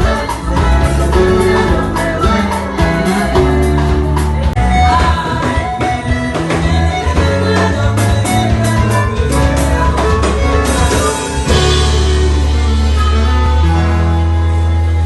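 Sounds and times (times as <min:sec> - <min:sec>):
deep bass notes: 0:00.0 - 0:05.5, 0:06.3 - 0:15.0
steady drum beat: 0:00.0 - 0:14.6
person singing: 0:00.0 - 0:15.0.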